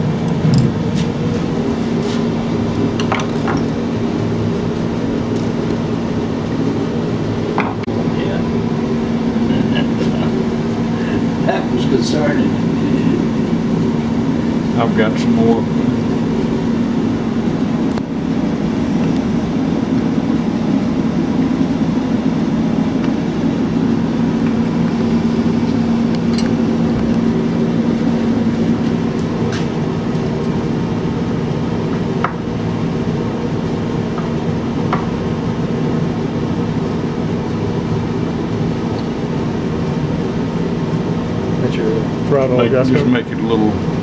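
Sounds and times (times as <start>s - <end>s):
steady machine hum: 0.0s - 44.0s.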